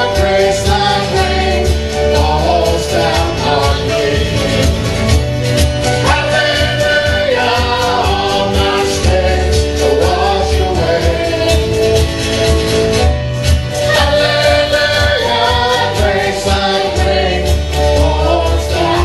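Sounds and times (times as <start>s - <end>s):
group singing: 0.0s - 5.2s, 5.8s - 13.0s, 13.7s - 19.0s
worship band playing: 0.0s - 19.0s.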